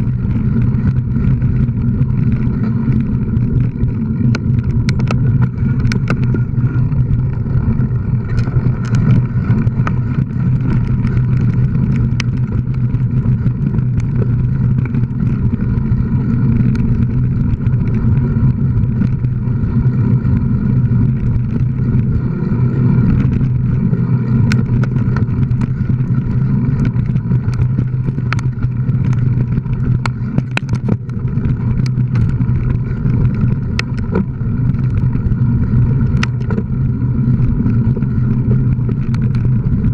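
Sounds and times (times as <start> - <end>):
mountain bike rumbling on dirt trail: 0.0 - 39.9.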